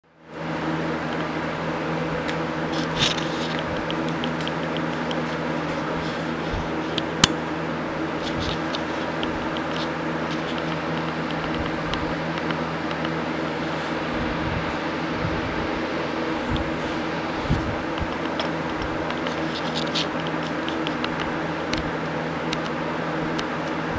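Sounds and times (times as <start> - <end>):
steady machine hum: 0.0 - 23.9.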